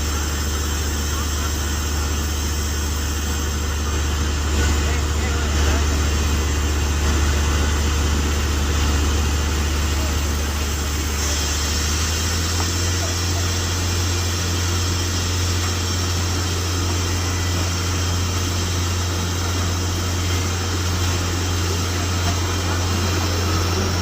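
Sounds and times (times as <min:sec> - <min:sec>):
drilling rig running: 0:00.0 - 0:24.0.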